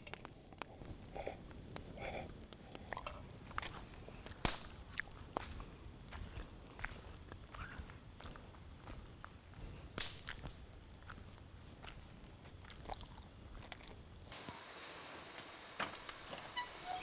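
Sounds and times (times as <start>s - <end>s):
campfire crackling and popping: 0.0s - 16.6s
steady hiss: 0.0s - 17.0s.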